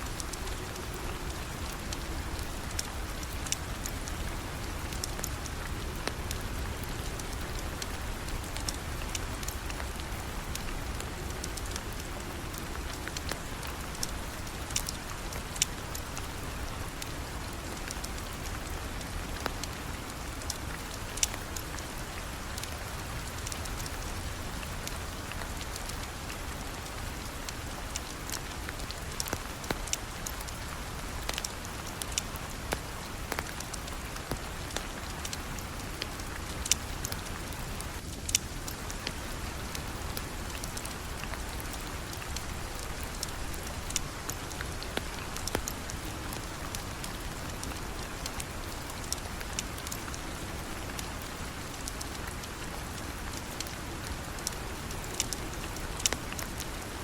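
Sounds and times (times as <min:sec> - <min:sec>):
rain falling: 0:00.0 - 0:57.0
sharp ticks and pops: 0:00.2 - 0:56.9.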